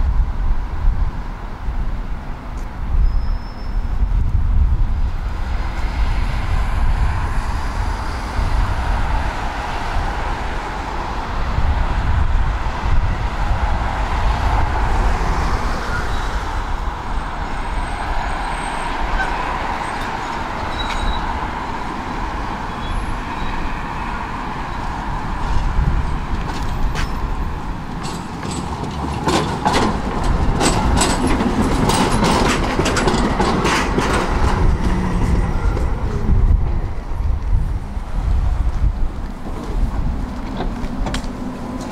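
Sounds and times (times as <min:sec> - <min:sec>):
passing vehicles rumbling: 0:03.6 - 0:41.9.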